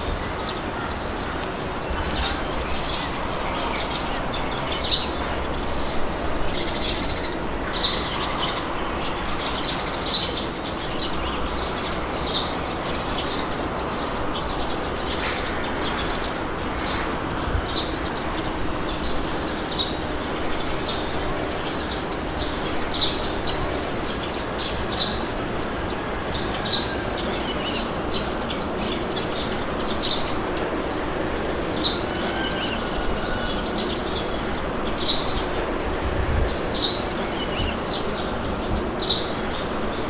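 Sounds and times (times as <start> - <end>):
wind: 0.0 - 40.0.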